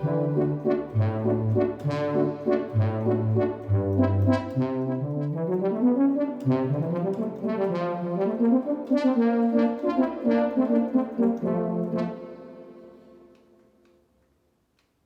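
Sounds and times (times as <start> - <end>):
synthesizer playing notes and chords: 0.0 - 13.0.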